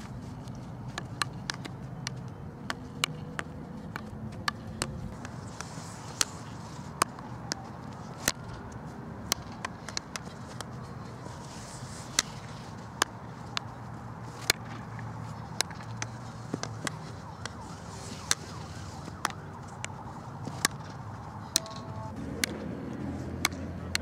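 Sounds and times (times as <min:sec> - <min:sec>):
hockey sticks striking ball: 0:00.8 - 0:22.6, 0:23.4 - 0:24.0.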